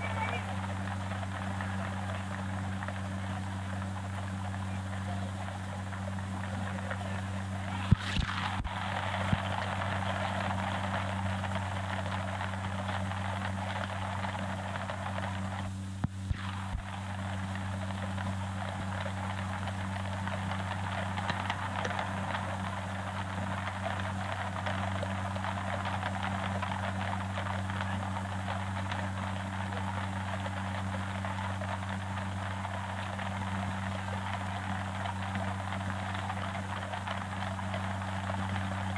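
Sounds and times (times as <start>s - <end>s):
film soundtrack hiss and crackle: 0.0s - 38.9s
low steady hum: 0.0s - 38.9s.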